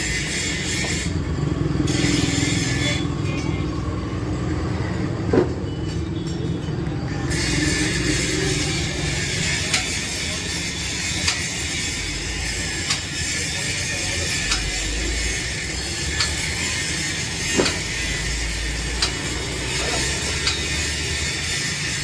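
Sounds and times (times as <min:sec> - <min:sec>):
steady machine noise: 0:00.0 - 0:22.0.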